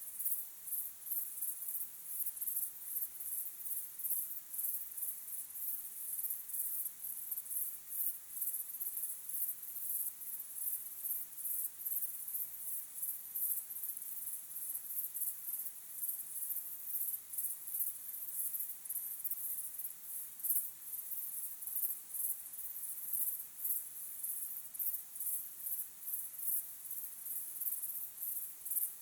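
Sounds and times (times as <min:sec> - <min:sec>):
crickets chirping: 0:00.1 - 0:29.0.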